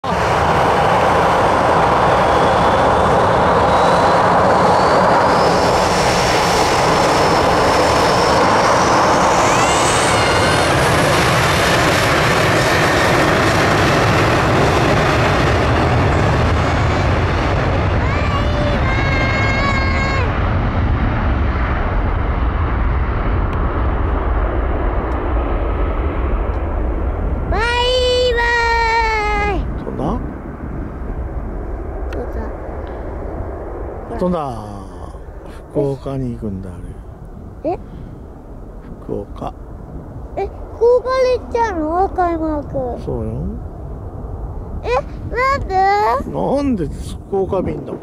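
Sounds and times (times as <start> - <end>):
jet engines roaring with whine: 0.0 - 48.0.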